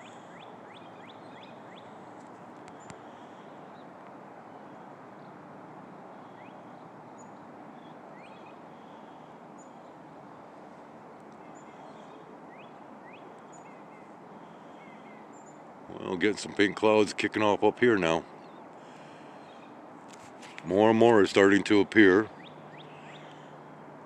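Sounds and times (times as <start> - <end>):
small birds chirping: 0.0 - 5.4, 6.1 - 10.1, 11.3 - 23.7
distant car traffic hum: 0.0 - 24.0.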